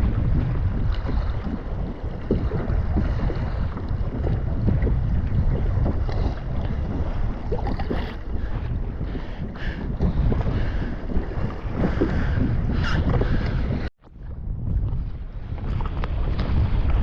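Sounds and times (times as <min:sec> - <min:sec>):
water splashing against kayak hull: 0:00.0 - 0:17.0
wind buffeting microphone: 0:00.0 - 0:17.0.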